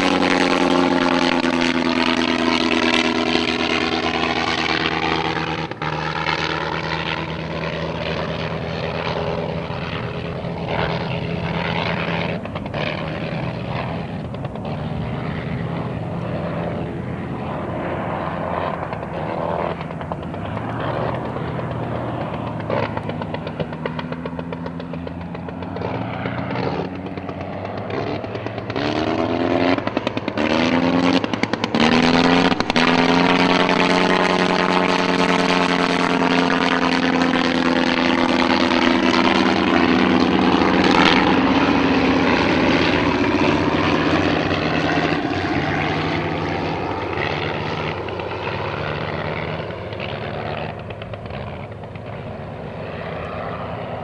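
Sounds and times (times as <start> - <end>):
rotary aircraft engine in flight: 0.0 - 54.0.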